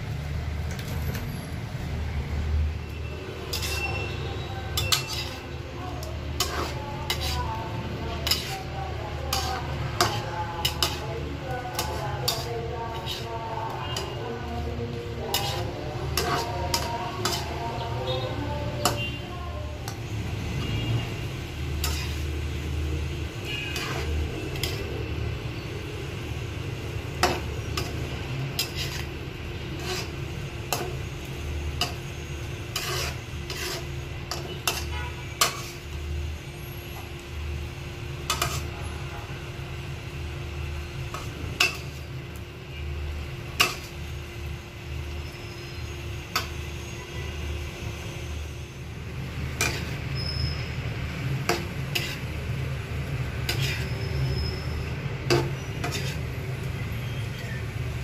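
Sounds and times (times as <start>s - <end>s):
spatula scraping a wok: 2.8s - 58.0s.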